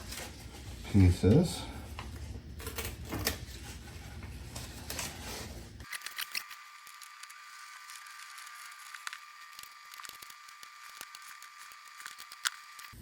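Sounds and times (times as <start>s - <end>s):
vinyl decal rustling and peeling: 0.0s - 13.0s.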